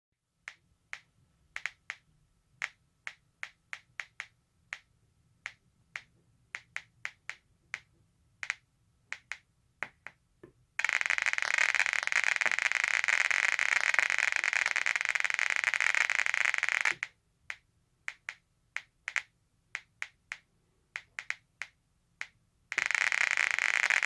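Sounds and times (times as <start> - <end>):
geiger counter clicks: 0.5 - 10.2, 10.8 - 24.0.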